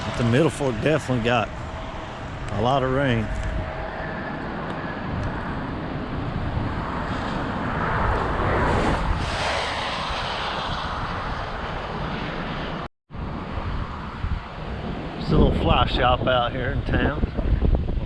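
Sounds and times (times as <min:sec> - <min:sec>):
low rumble: 0:00.0 - 0:17.6
wind on microphone: 0:00.0 - 0:18.0.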